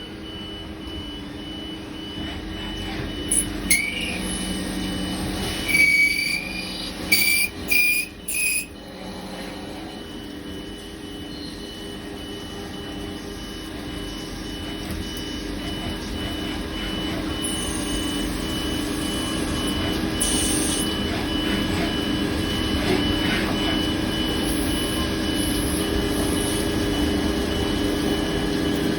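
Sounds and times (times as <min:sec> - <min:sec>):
pulsing high tone: 0:00.0 - 0:28.7
machine mechanical hum: 0:00.0 - 0:28.9.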